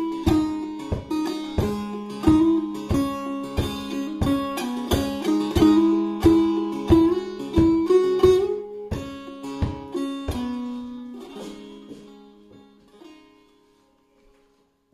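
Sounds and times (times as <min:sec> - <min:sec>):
plucked lute strings: 0:00.0 - 0:14.6.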